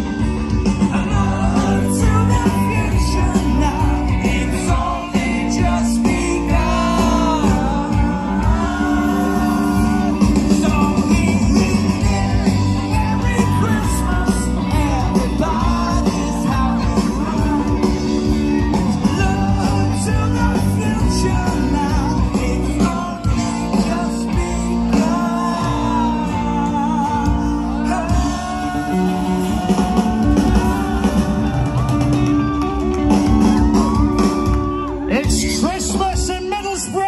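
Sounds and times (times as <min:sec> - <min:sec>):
live rock band playing: 0:00.0 - 0:37.0
person singing: 0:00.7 - 0:32.3.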